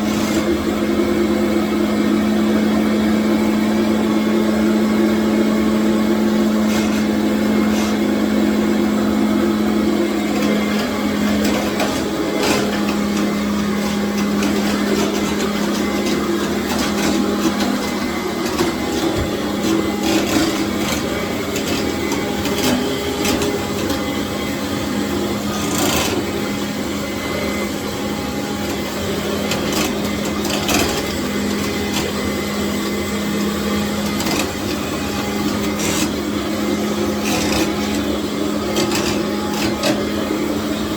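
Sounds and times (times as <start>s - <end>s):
vacuum cleaner motor hum: 0.0s - 40.9s
floor head rasping on tile: 6.4s - 40.6s.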